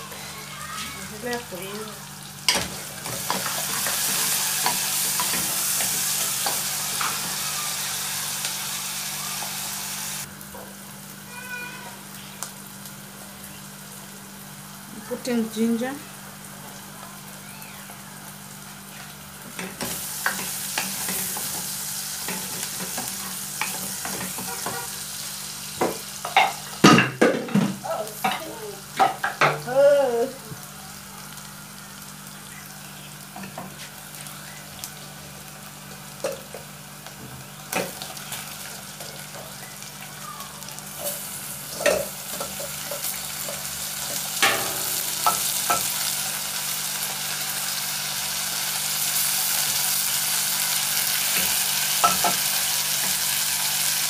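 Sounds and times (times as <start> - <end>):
onions sizzling in a pan: 0.0 - 54.0.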